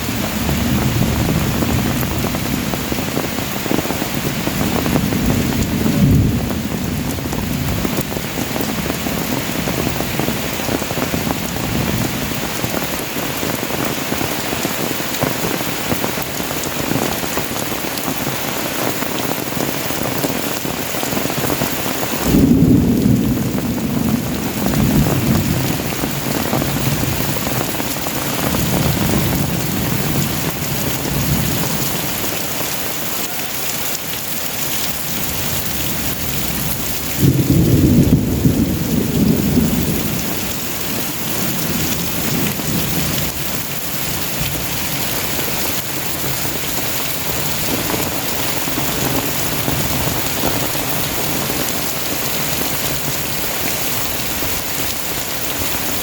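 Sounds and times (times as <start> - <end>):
low rumble of thunder: 0.0 - 18.5, 19.5 - 32.4, 34.9 - 54.9
heavy rain downpour: 0.0 - 56.0.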